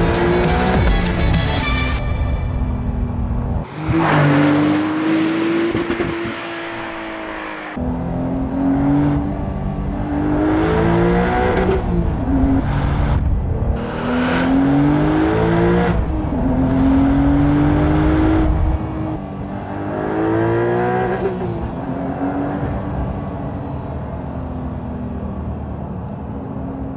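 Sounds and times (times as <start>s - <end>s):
car engine revving through gears: 0.0s - 1.5s, 3.0s - 25.5s.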